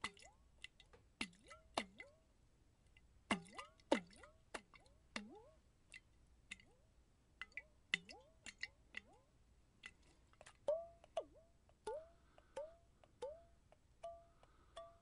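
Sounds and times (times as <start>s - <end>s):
water-drop bloops from jar: 0.0s - 2.2s, 3.3s - 6.8s, 7.4s - 14.2s.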